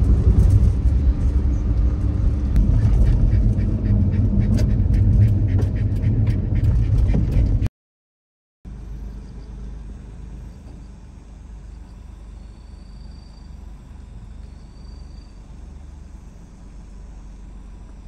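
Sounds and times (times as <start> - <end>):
car engine idling: 0.0 - 7.6, 8.7 - 18.0.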